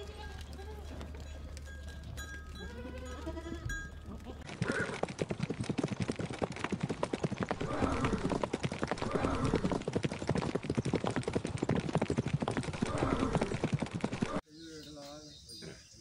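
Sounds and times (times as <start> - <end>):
hoofbeats on hard ground: 0.0 - 14.4.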